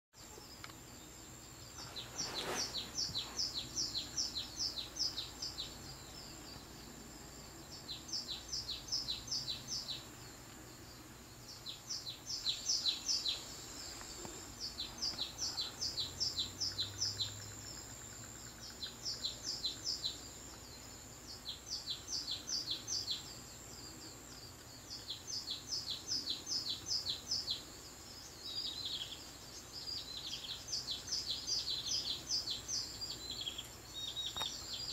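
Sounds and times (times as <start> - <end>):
birdsong through tv speakers: 0.2 - 34.9.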